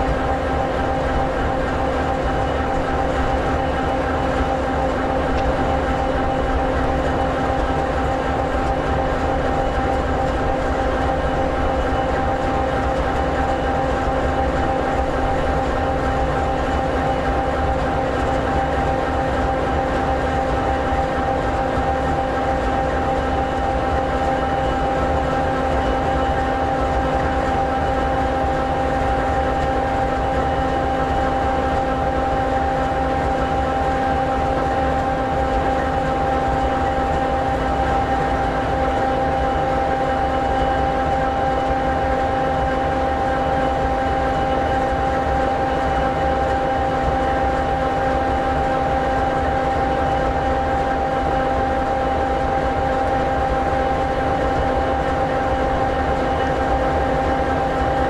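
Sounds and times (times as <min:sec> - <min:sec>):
steady whine: 0:00.0 - 0:58.0.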